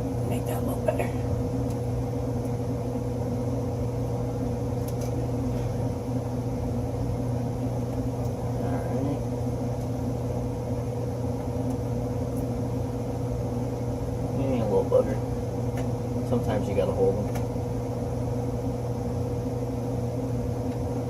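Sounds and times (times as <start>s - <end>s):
hvac machine hum: 0.0s - 21.0s.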